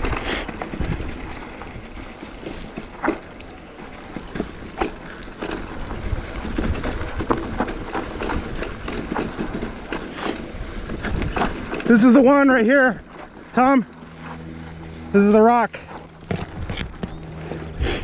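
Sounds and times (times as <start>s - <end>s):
bike knocking and rattling: 0.0s - 17.8s
tyres rolling on dirt: 0.0s - 18.0s.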